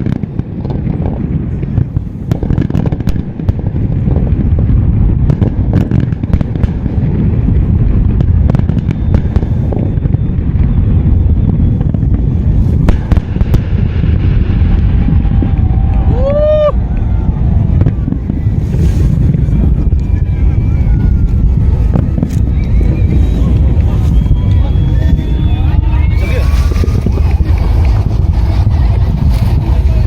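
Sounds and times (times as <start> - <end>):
fireworks bangs and crackles: 0.0 - 30.0
rumble of explosions: 0.0 - 30.0.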